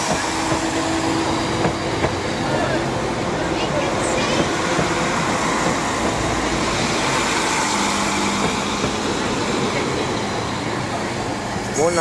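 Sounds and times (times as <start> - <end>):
train pulling away: 0.0 - 12.0.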